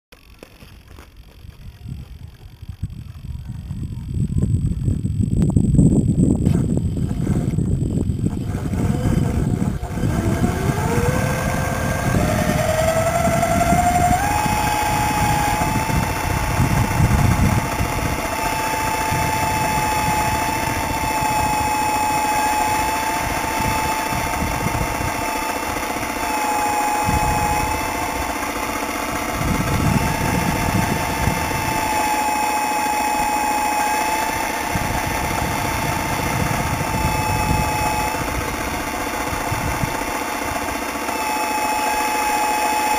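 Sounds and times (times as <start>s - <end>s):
low rumble and rattle: 0.2s - 41.4s
hydraulic pump whine: 0.2s - 42.9s.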